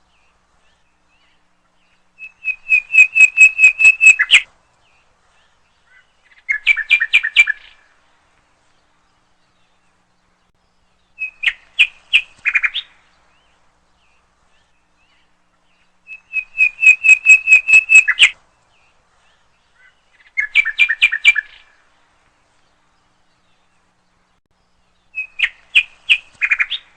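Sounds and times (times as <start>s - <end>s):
songbird chirping: 0.0s - 26.9s.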